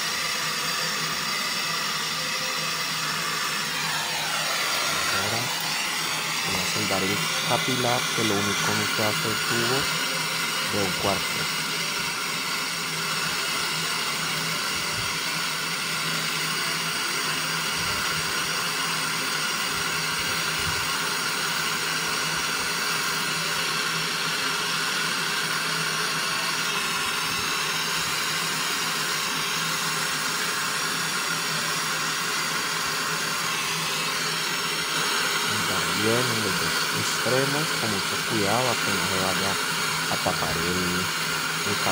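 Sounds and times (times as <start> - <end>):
brazing torch flame hissing: 0.0 - 41.9.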